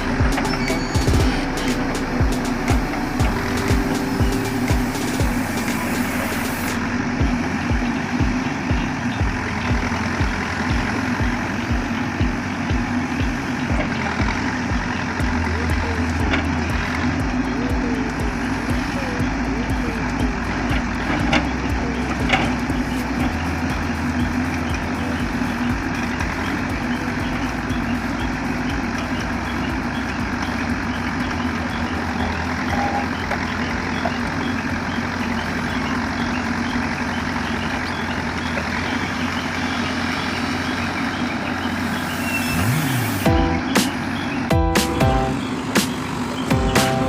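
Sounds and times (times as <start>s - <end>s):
faint reversing alarm beeping: 0.0s - 47.0s
heavy diesel machinery running: 0.0s - 47.0s.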